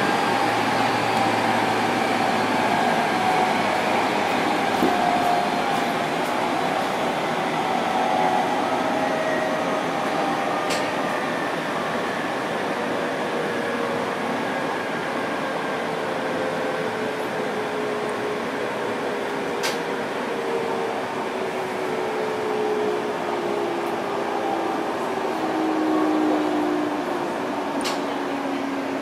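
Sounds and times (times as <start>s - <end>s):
electric train rumble: 0.0s - 29.0s.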